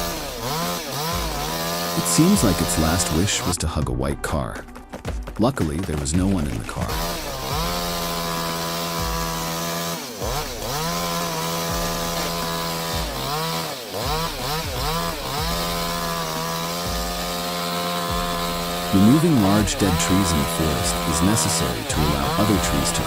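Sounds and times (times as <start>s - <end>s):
chainsaw revving: 0.0s - 3.6s, 6.4s - 23.0s.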